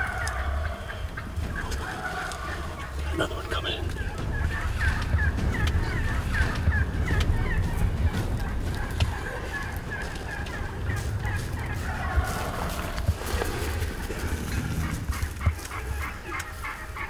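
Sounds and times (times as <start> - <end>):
steady low rumble: 0.0 - 17.0
wild turkeys calling: 0.0 - 17.0.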